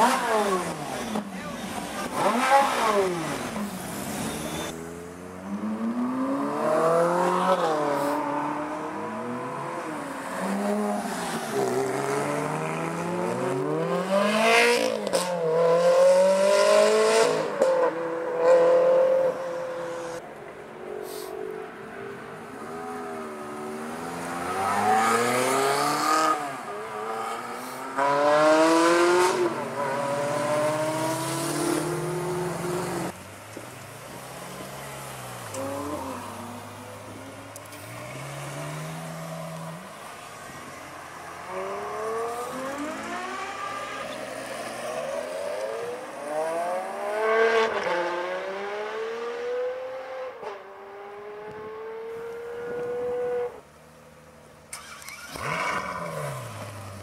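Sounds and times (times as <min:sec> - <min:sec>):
sports car engines revving: 0:00.0 - 0:20.2, 0:21.0 - 0:33.3, 0:34.0 - 0:53.7.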